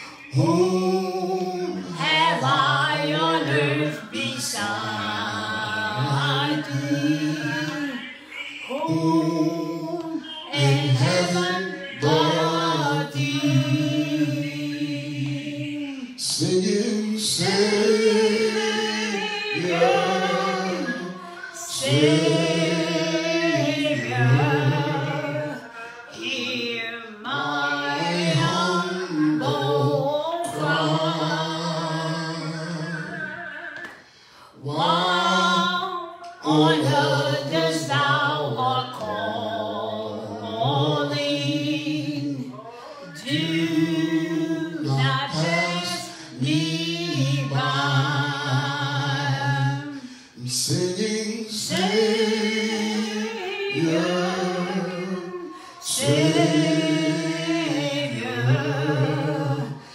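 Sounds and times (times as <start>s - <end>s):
man singing a hymn unaccompanied: 0.0s - 59.9s.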